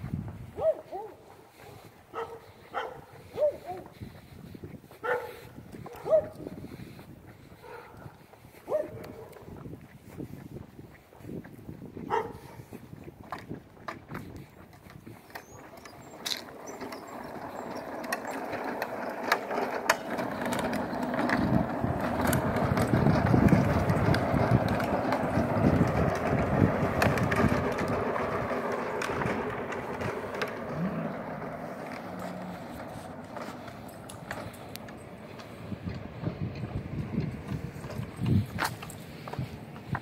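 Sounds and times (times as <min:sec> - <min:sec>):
small wheels rolling over asphalt: 0:00.0 - 0:40.0.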